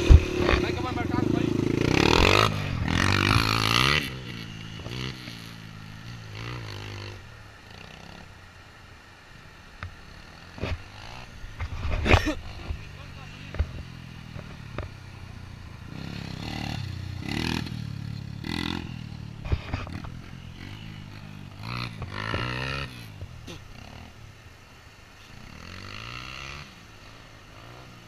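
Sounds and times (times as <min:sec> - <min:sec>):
buggy engine revving: 0:00.0 - 0:08.4, 0:10.0 - 0:24.5, 0:25.2 - 0:28.0.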